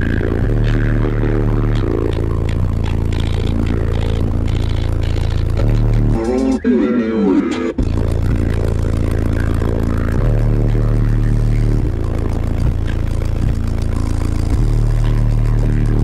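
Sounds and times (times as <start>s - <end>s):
buzzing rattle: 0.0s - 6.6s, 7.8s - 16.0s
subwoofer deep bass notes: 0.0s - 16.0s.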